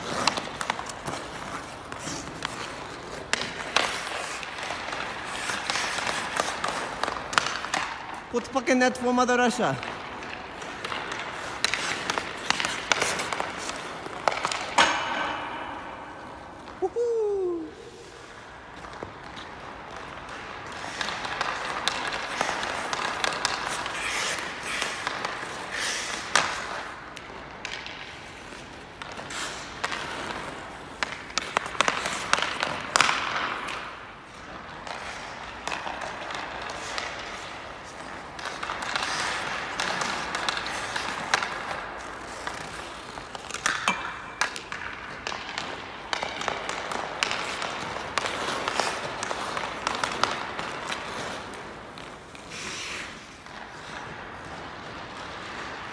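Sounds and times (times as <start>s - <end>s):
hockey stick striking puck: 0.0s - 16.8s, 18.1s - 55.9s
skate blades scraping ice: 0.0s - 55.9s.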